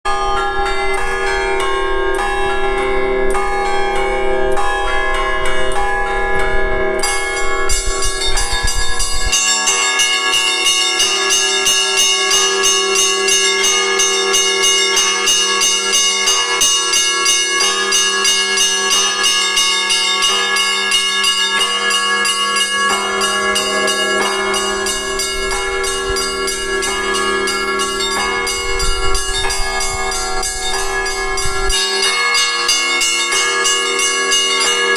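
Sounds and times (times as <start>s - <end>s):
deep church bells ringing: 0.0s - 34.9s
smaller higher bells striking: 0.1s - 34.9s.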